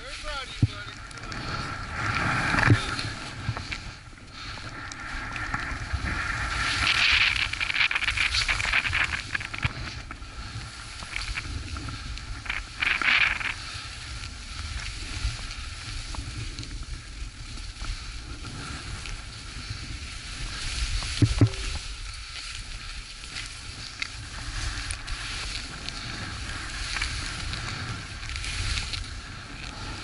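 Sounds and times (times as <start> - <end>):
skis scraping over snow: 0.0 - 30.0
wind rumble on microphone: 0.0 - 30.0.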